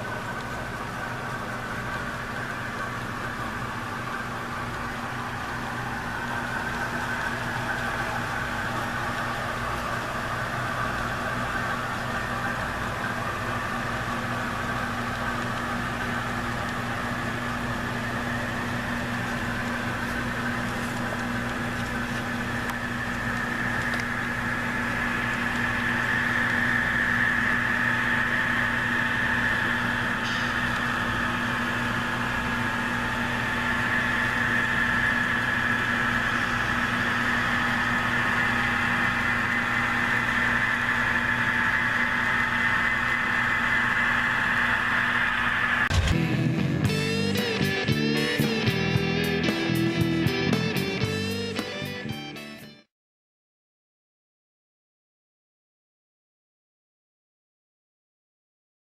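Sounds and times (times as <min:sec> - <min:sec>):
model train motor whine: 0:00.0 - 0:46.3, 0:46.9 - 0:52.0
low hum: 0:00.0 - 0:52.2.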